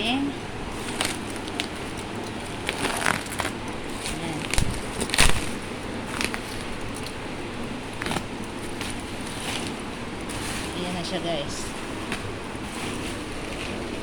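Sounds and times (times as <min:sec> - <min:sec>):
bubble wrap rustling and crinkling: 0:00.0 - 0:14.0.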